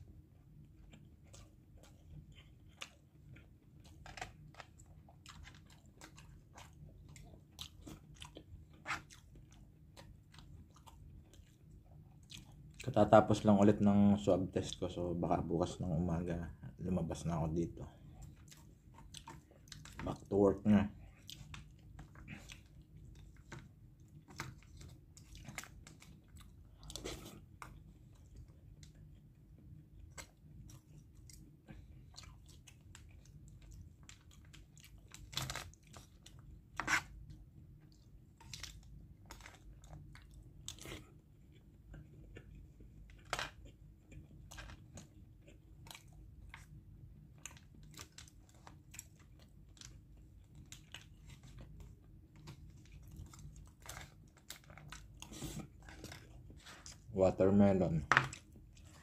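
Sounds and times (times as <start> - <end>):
person chewing and crunching: 0.2 - 14.9, 16.8 - 59.0.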